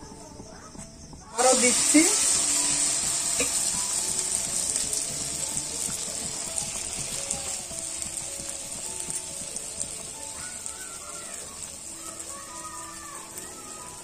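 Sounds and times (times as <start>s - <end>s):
batter deep-frying in hot oil: 0.0s - 14.0s.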